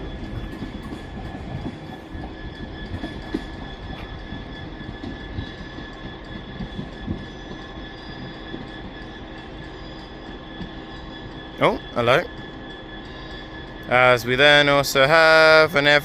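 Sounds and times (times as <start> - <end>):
thin high whine: 0.0 - 16.0
train rumbling: 0.0 - 16.0.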